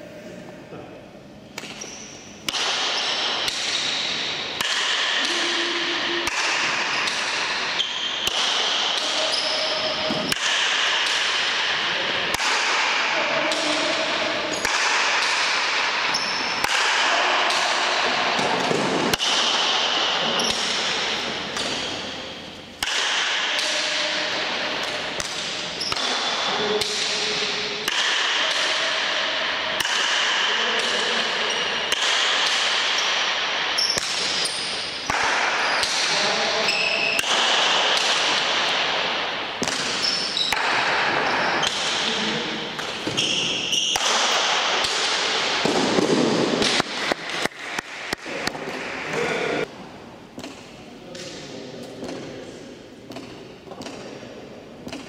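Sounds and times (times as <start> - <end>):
ball cracking off paddles and walls: 1.5 - 49.6.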